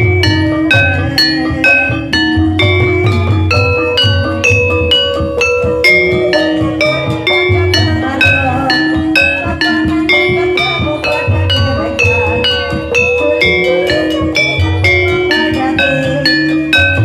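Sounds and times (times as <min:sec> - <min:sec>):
gamelan melody on struck keys: 0:00.0 - 0:17.0
low recurring beat: 0:00.0 - 0:17.0.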